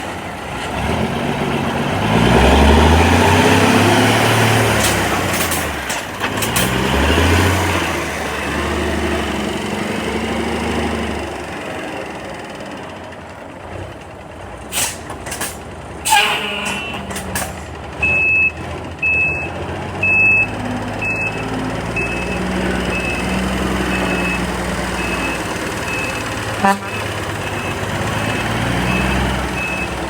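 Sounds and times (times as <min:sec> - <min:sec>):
truck engine revving: 0:00.0 - 0:12.8, 0:13.7 - 0:30.0.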